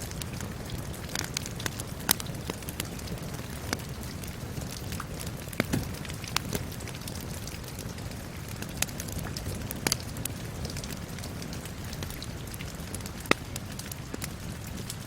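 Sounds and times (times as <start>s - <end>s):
steady rain hiss: 0.0s - 15.0s
wood fire crackling: 0.0s - 15.0s.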